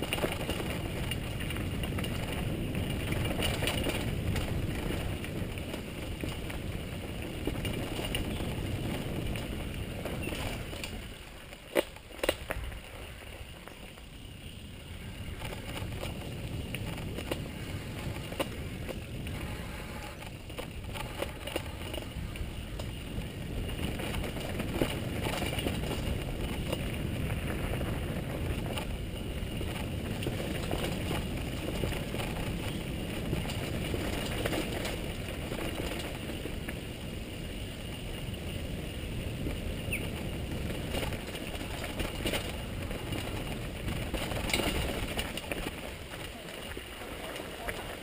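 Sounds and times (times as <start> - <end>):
bike rattling over bumps: 0.0 - 48.0
bike tyres rumbling over gravel: 0.0 - 48.0.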